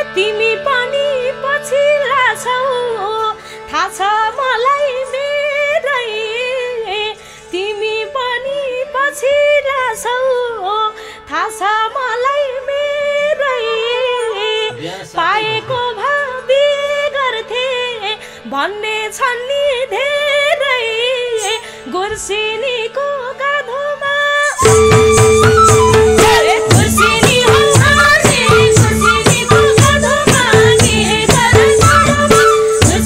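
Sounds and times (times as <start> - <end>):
woman singing folk melody: 0.0 - 33.0.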